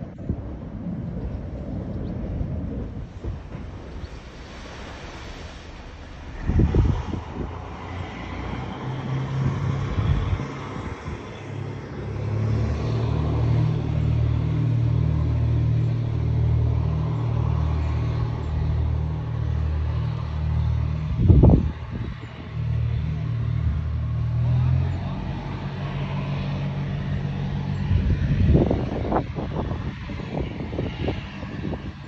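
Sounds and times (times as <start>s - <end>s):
diesel engines droning: 0.0s - 32.0s
wind buffeting microphone: 0.0s - 32.0s.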